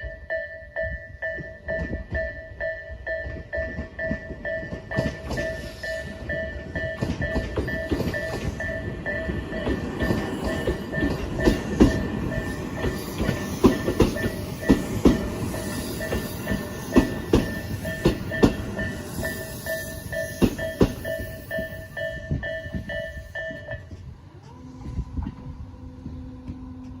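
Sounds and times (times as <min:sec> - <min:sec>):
level-crossing warning bell: 0:00.0 - 0:24.8
train wheels clacking on rails: 0:00.8 - 0:24.1.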